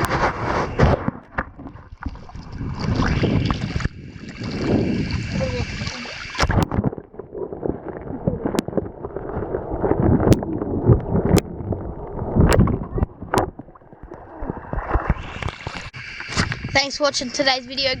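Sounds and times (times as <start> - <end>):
muffled water gurgling: 0.0 - 18.0.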